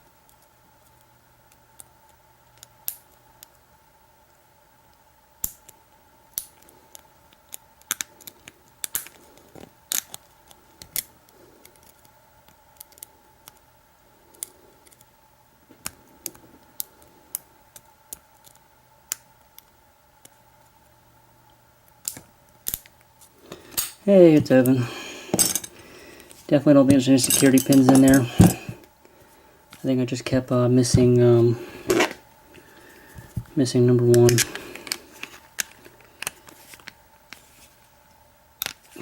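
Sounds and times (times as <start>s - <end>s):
faint electrical hum: 0.0s - 39.0s.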